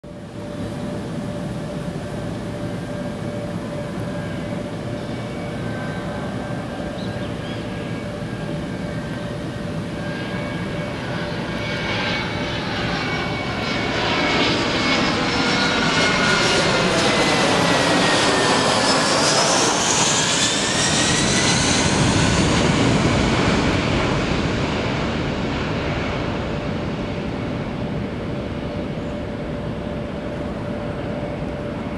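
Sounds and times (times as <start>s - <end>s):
jet engines roaring overhead: 0.0s - 31.9s.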